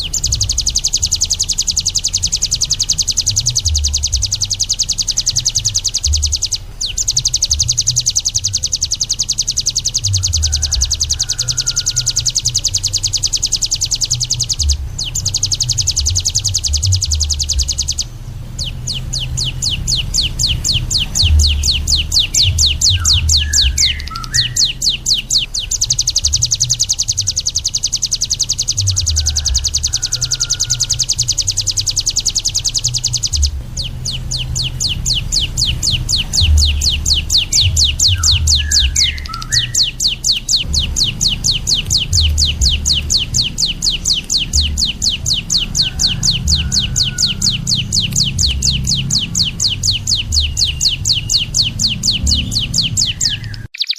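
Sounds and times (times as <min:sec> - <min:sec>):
low rumble: 0:00.0 - 0:53.7
songbird trilling: 0:00.0 - 0:53.9.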